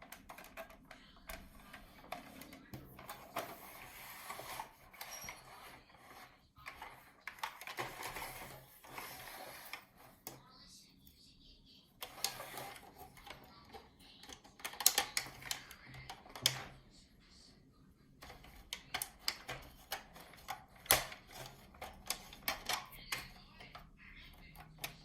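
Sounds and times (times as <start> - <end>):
plastic parts clicking and knocking: 0.0 - 10.4, 12.0 - 16.8, 18.2 - 25.0.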